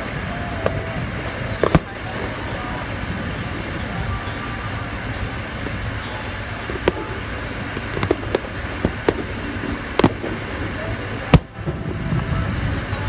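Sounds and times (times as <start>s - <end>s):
distant fireworks pops and bangs: 0.0s - 13.0s
low background rumble: 0.0s - 13.0s.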